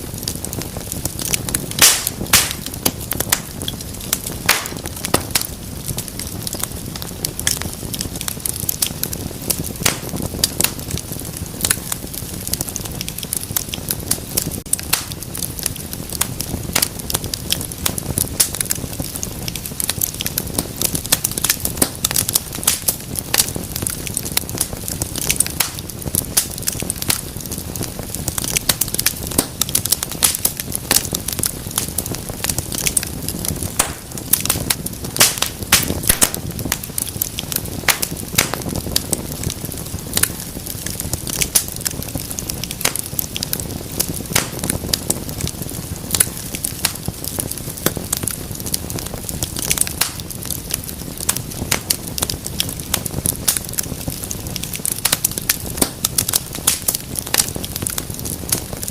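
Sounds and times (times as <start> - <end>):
low rumble of flame: 0.0 - 58.9
wood fire crackling: 0.0 - 58.9.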